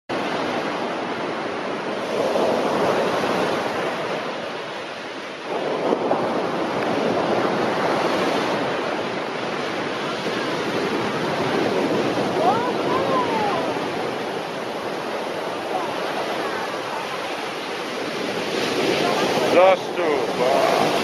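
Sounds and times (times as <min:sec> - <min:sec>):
waves crashing on sandy beach: 0:00.1 - 0:21.0.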